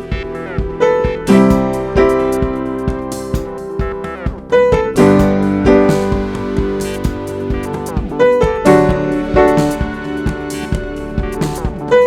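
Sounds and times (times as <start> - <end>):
steady beat: 0.0 - 12.0.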